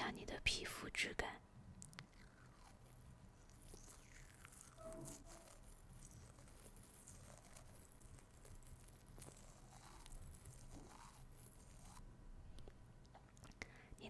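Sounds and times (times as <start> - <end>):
faint soft crackles: 1.8 - 13.7.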